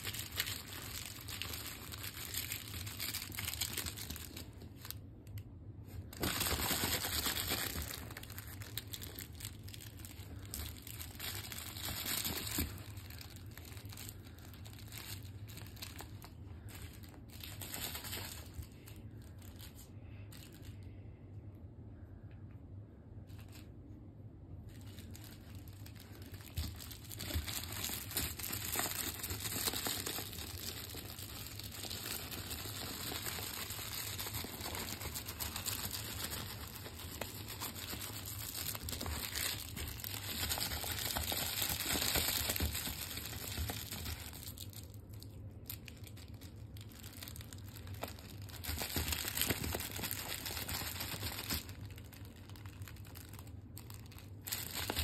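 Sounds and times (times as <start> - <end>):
dog toy crinkling: 0.0 - 21.0, 24.6 - 55.0.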